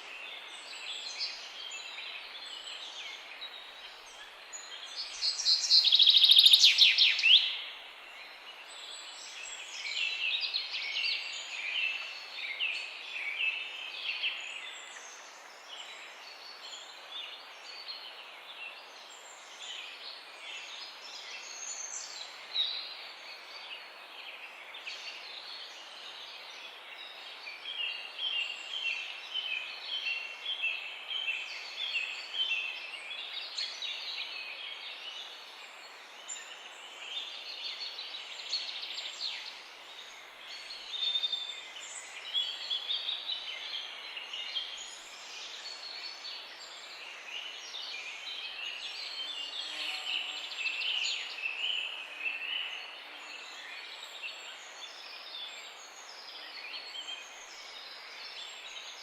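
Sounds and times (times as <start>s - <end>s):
background hiss: 0.0s - 59.0s
songbirds singing: 0.0s - 59.0s.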